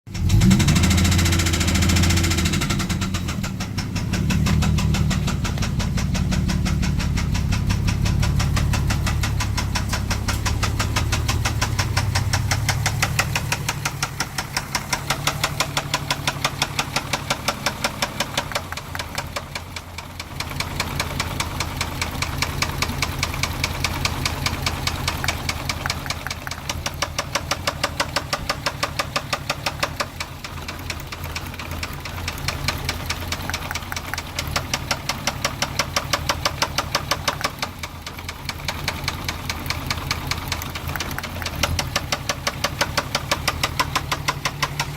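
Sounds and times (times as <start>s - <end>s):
car engine with rhythmic knock: 0.0s - 44.9s.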